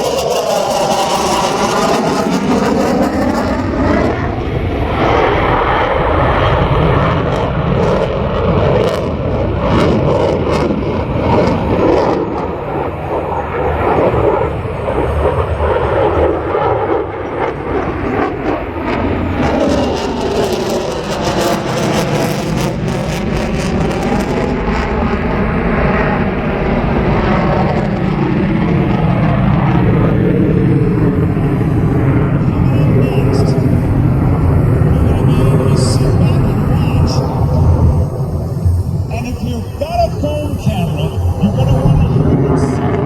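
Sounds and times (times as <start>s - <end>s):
jet passing by: 0.0s - 43.0s.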